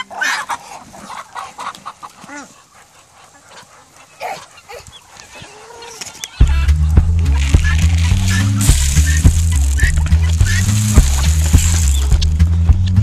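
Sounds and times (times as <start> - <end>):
poultry calling: 0.0 - 12.4.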